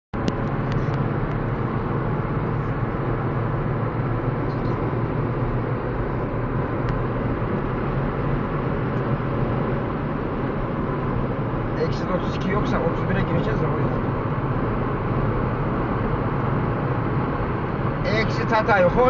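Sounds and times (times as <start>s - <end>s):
car engine and road noise in cabin: 0.2s - 19.0s.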